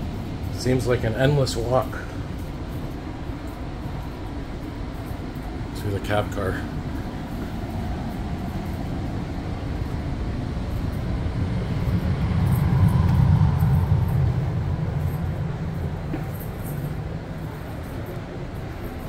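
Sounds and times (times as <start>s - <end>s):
train coach ventilation humming: 0.0s - 19.0s.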